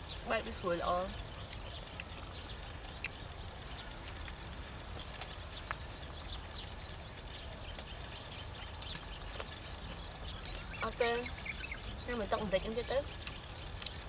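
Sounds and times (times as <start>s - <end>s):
chirps and clicks: 0.0s - 14.0s
steady low rumble: 0.0s - 14.0s.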